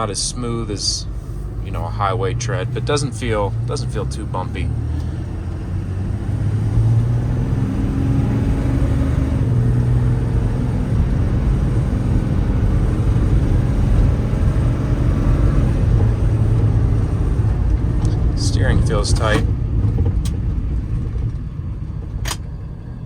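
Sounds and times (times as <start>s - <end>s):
diesel engine rumble: 0.0s - 23.0s
road noise: 0.0s - 23.0s.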